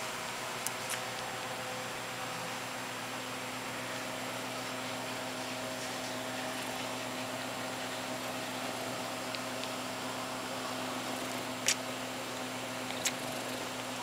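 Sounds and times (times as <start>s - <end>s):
room noise hum and hiss: 0.0s - 14.0s.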